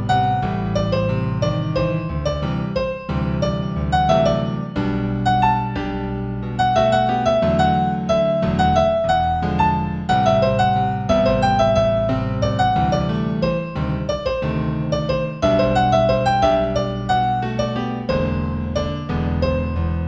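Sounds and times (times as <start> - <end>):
piano piece: 0.0 - 20.0.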